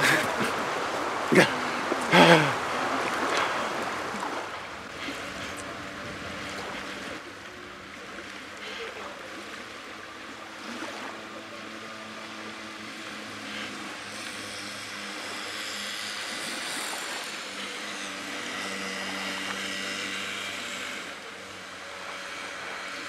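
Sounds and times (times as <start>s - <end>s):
distant engine droning: 0.0s - 23.0s.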